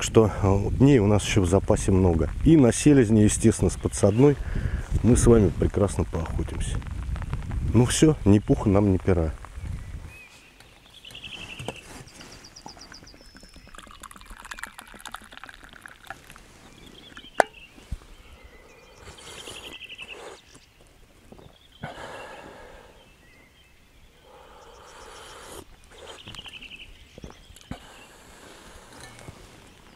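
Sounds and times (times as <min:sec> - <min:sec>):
songbirds singing: 0:00.0 - 0:29.9.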